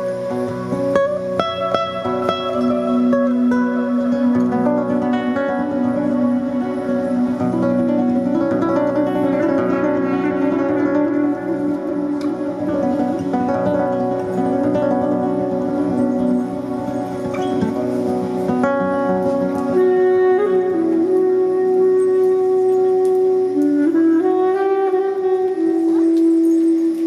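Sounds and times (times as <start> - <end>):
plucked string instrument: 0.0 - 27.0.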